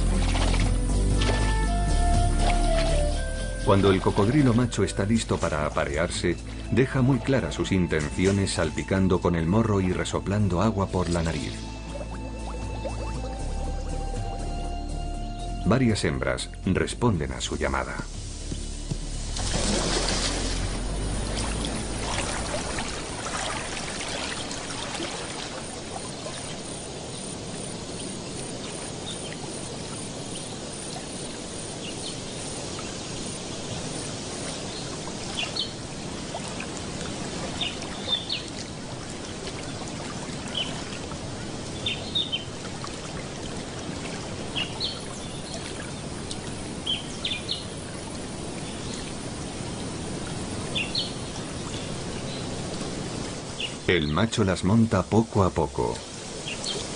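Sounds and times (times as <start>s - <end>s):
water trickling and lapping: 0.0s - 15.4s, 17.8s - 56.9s.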